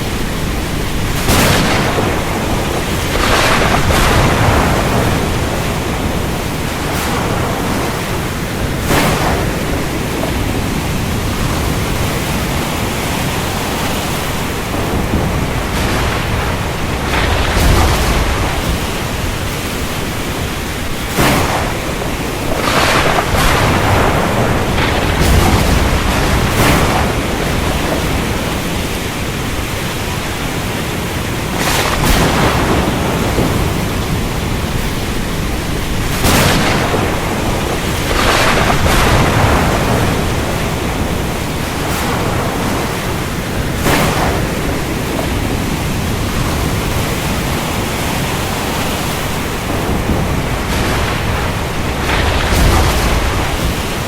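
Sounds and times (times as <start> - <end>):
sharp thunder cracks: 0.0 - 30.6, 31.4 - 54.0
low thunder rumble: 0.0 - 54.0
steady rain: 0.0 - 54.0.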